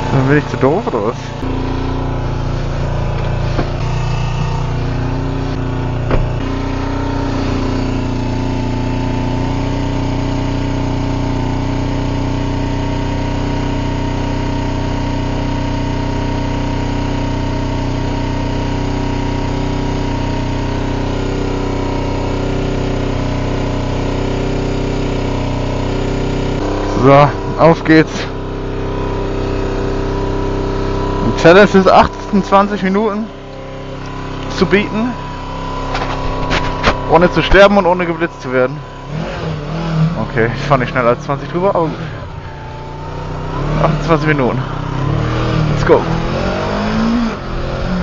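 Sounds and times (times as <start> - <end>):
motorcycle engine idling: 0.0 - 46.2.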